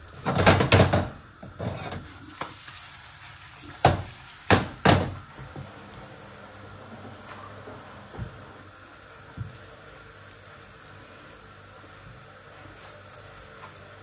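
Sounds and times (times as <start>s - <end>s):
omelette sizzling in oil: 0.0s - 14.0s.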